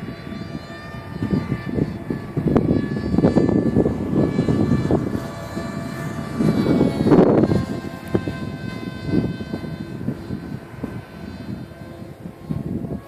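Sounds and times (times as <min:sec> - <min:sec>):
model plane motor whine: 0:00.0 - 0:13.0
wind buffeting microphone: 0:00.0 - 0:13.0.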